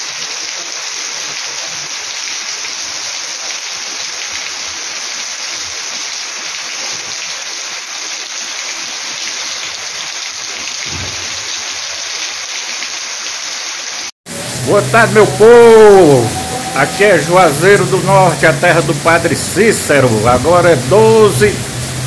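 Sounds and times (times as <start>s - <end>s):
heavy rain on grass and paving: 0.0s - 22.0s
water running off roof: 0.0s - 22.0s.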